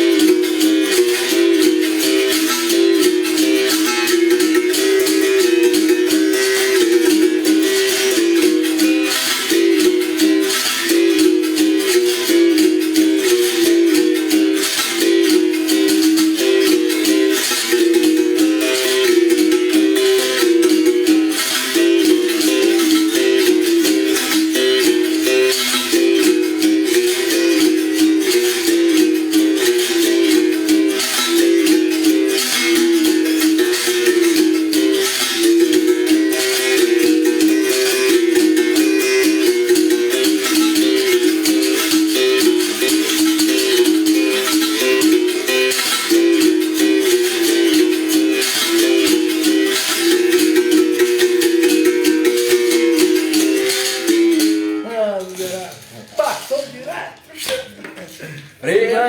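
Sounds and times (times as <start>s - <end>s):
berimbau wire ringing: 0.0s - 56.6s
shaker rattling: 0.0s - 58.3s.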